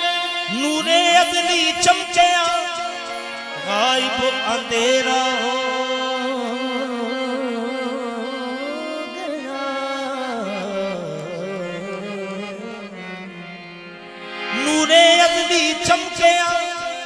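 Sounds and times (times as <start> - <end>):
harmonium: 0.0 - 17.0.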